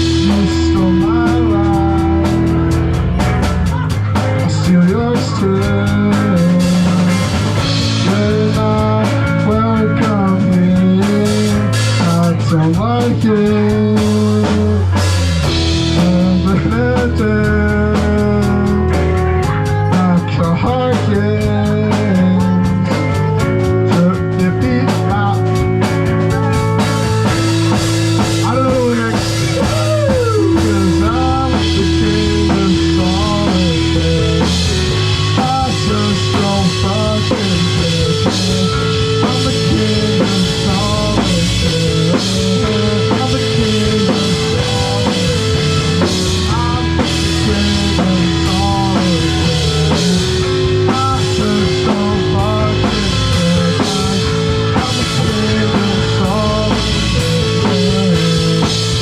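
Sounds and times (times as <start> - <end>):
drum kit beat: 0.0 - 59.0
rock band playing live: 0.0 - 59.0.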